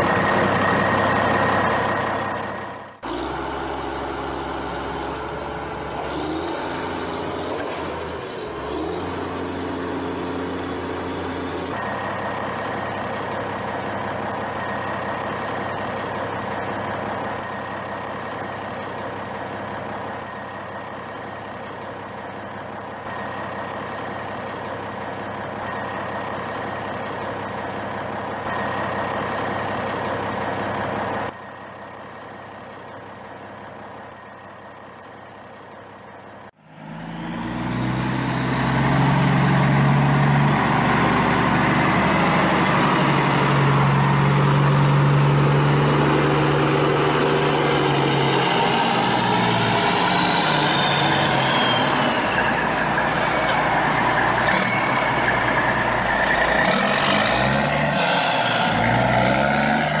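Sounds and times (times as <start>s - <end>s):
truck engine running: 0.0s - 60.0s.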